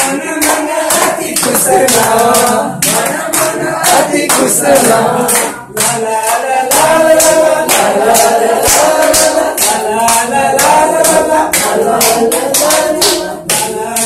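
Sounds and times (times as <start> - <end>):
group singing in chorus: 0.0 - 14.0
hand claps: 0.0 - 14.0.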